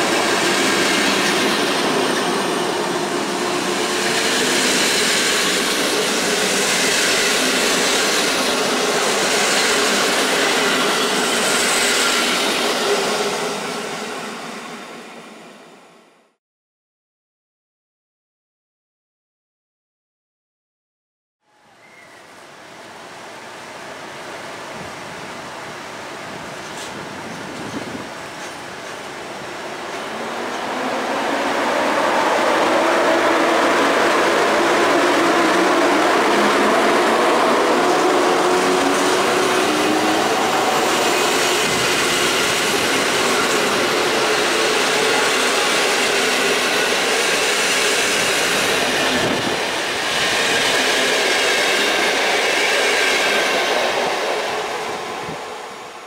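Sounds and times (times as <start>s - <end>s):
train passing: 0.0s - 16.2s, 21.5s - 56.0s.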